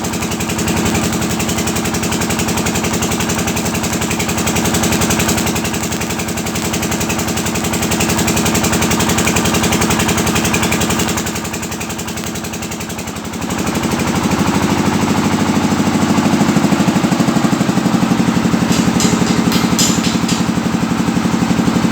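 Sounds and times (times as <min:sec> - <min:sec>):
engine running with pulsing beat: 0:00.0 - 0:21.9.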